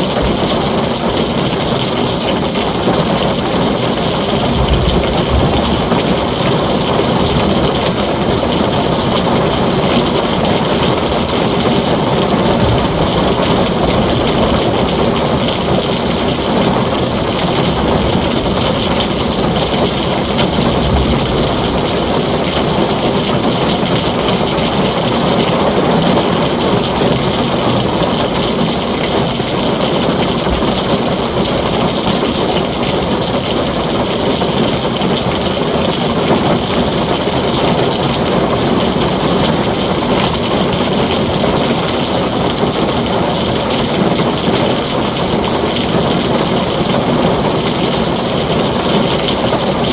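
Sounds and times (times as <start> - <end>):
heavy rain on a tin roof: 0.0 - 49.9.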